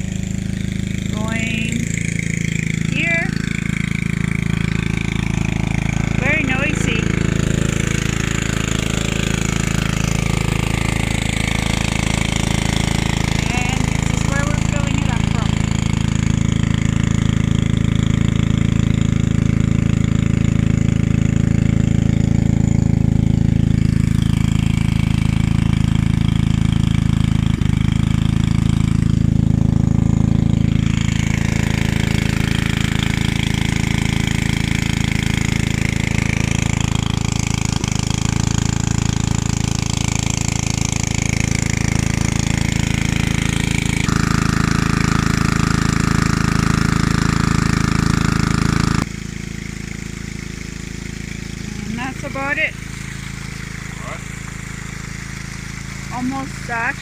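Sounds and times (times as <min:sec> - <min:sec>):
small water pump engine running: 0:00.0 - 0:57.0.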